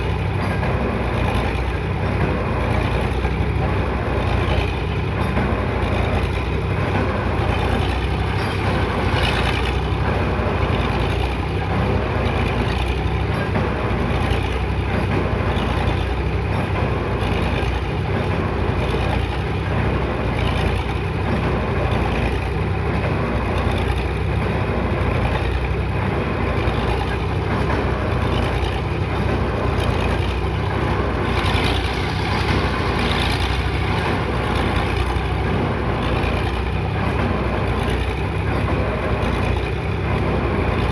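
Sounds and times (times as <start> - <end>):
diesel construction machinery running: 0.0 - 40.9.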